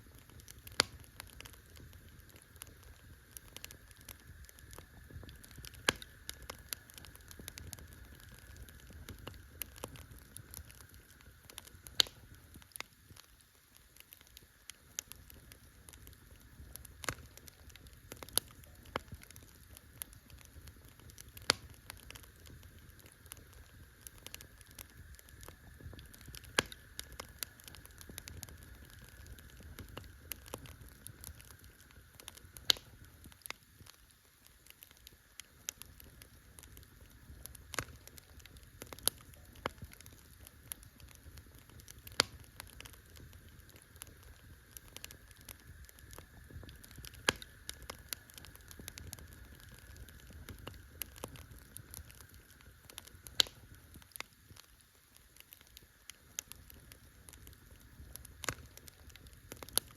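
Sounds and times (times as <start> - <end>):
campfire crackling and popping: 0.0 - 59.9
low fire rumble: 0.0 - 59.9.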